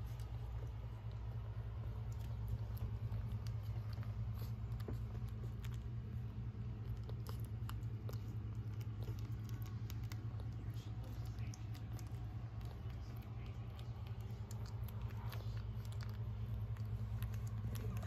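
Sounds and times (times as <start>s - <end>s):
low hum: 0.0s - 18.0s
puppies clicking and smacking: 0.0s - 18.0s.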